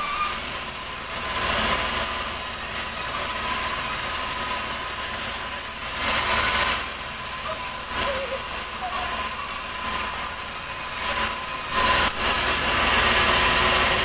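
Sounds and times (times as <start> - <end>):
sawmill machinery hum: 0.0 - 14.0.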